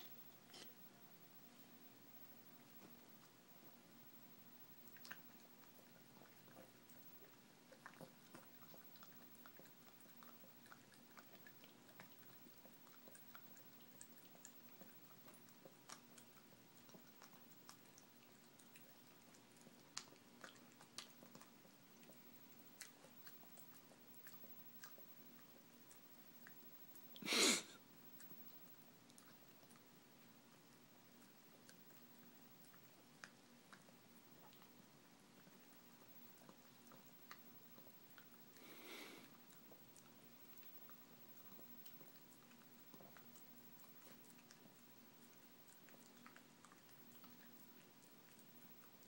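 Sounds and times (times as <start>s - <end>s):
dog licking and chewing: 0.0s - 27.2s, 27.8s - 49.0s.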